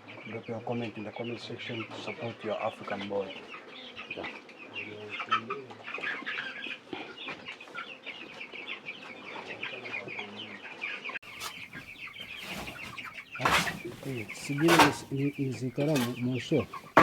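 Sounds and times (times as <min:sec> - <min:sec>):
background noise: 0:00.0 - 0:17.0
chicks peeping: 0:01.2 - 0:17.0.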